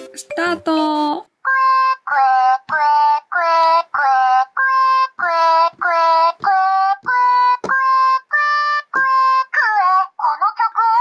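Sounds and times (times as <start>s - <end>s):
toy singing in synthesized voice: 1.4s - 11.0s.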